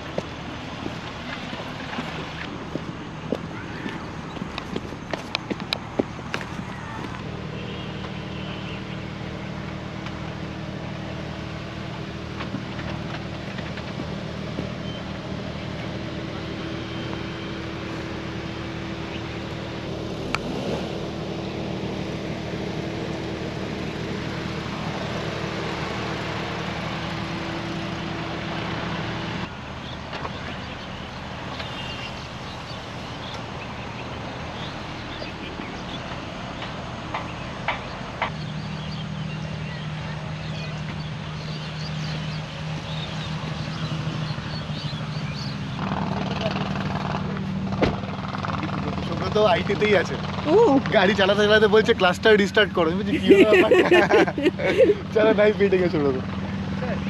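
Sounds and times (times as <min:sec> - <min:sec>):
car engine running steadily: 0:00.0 - 0:57.0
quieter engine sound: 0:00.0 - 0:57.0.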